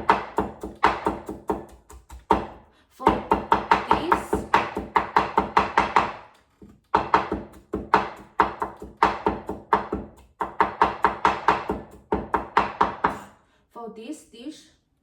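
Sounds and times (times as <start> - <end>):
knife chopping on cutting board: 0.0 - 13.3.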